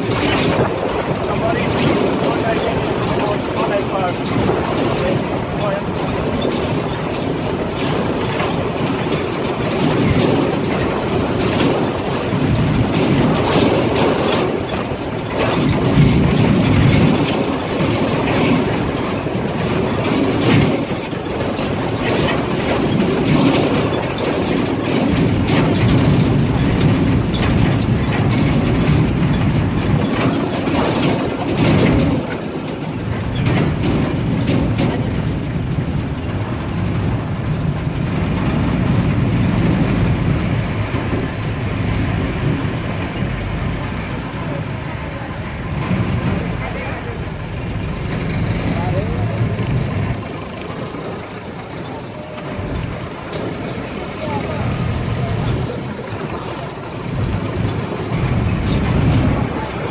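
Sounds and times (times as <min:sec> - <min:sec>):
vehicle body rattling and knocking: 0:00.0 - 0:59.9
vehicle engine running: 0:00.0 - 0:59.9.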